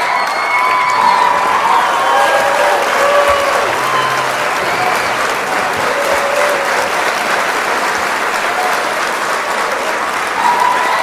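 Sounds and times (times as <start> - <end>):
large crowd applauding: 0.0 - 11.0.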